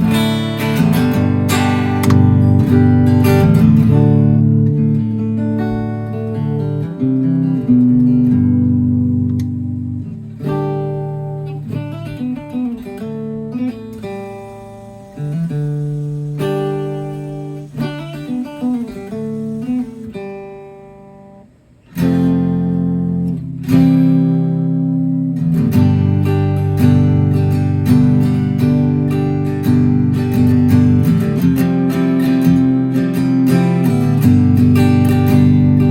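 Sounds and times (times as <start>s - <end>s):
electric guitar playing: 0.0s - 35.9s.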